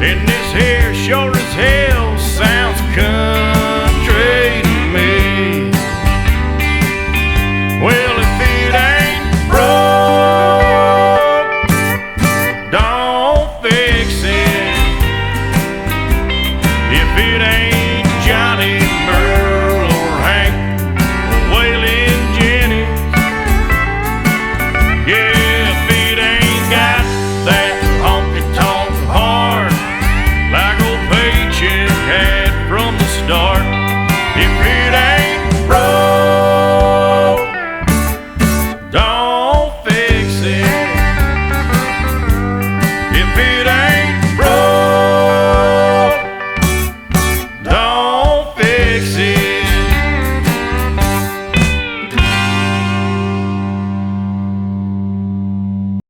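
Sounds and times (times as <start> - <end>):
country song with guitar and singing: 0.0 - 56.0.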